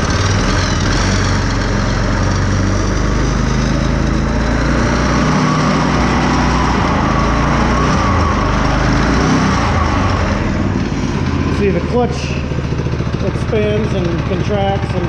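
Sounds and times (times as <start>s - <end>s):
small go-kart engine running: 0.0s - 15.0s.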